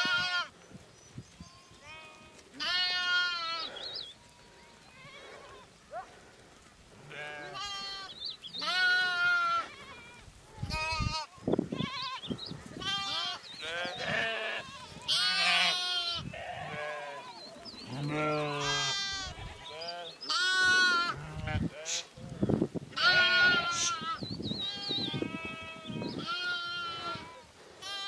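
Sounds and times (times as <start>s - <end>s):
flock of sheep bleating: 0.0s - 0.5s, 1.4s - 5.7s, 7.0s - 28.0s.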